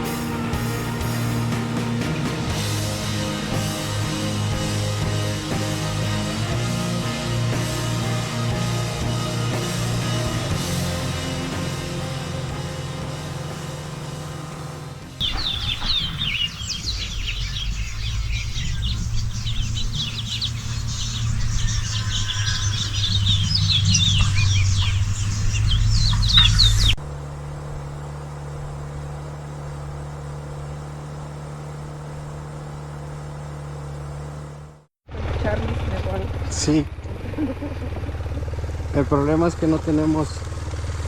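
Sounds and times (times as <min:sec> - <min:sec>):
birds chirping: 0:00.0 - 0:36.8
motorcycle engine rumbling: 0:00.0 - 0:41.0.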